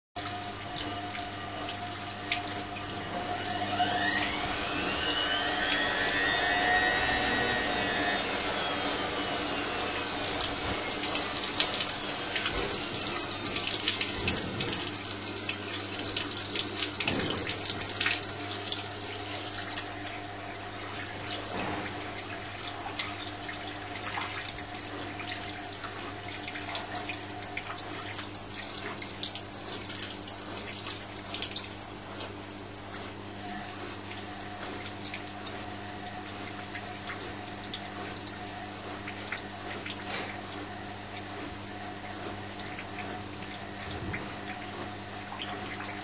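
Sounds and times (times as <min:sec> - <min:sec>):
drain pump running: 0:00.2 - 0:46.0
washing machine drum motor whine: 0:00.2 - 0:46.0.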